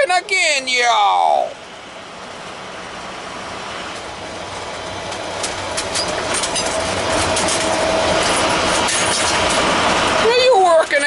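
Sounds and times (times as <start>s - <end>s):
vehicle driving: 0.0s - 11.0s.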